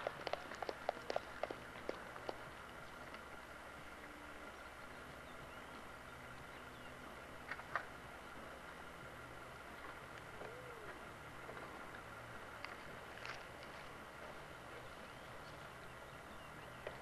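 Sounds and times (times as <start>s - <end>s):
outdoor background hum and hiss: 0.0s - 17.0s.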